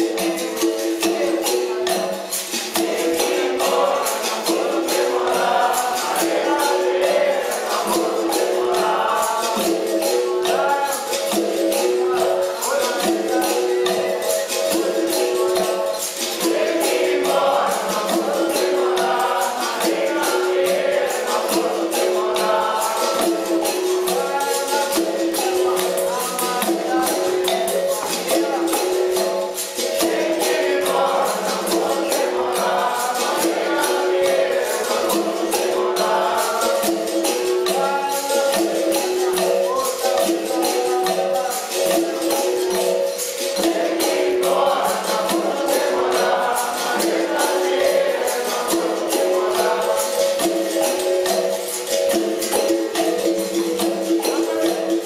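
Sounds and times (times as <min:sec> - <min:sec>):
drum keeping a steady rhythm: 0:00.0 - 0:55.0
pandeiros: 0:00.0 - 0:55.0
voices singing: 0:00.0 - 0:55.0.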